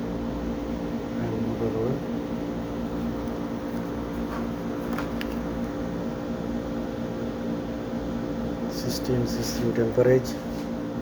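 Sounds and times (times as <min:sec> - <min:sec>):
air conditioner fan hum: 0:00.0 - 0:11.0.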